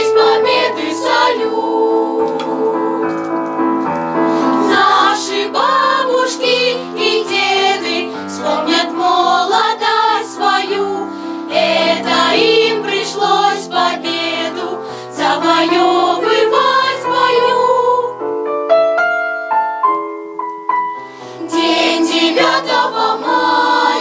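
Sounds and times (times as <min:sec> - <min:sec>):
children's choir singing: 0:00.0 - 0:03.5, 0:04.4 - 0:18.2, 0:21.4 - 0:24.0.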